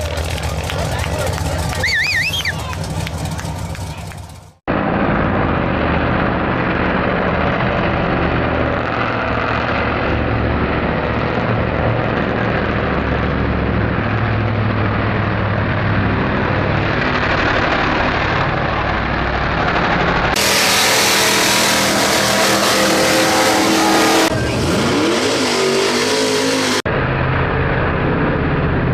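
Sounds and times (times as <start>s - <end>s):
off-road vehicle engine droning: 0.0s - 28.9s.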